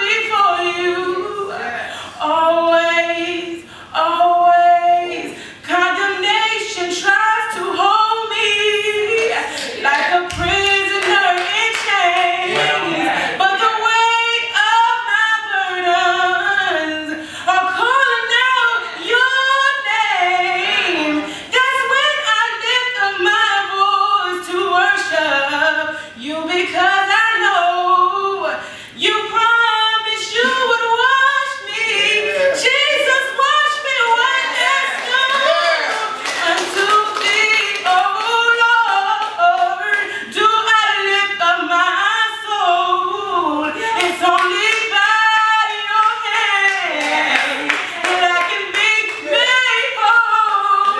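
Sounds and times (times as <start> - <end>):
woman singing gospel: 0.0 - 50.9.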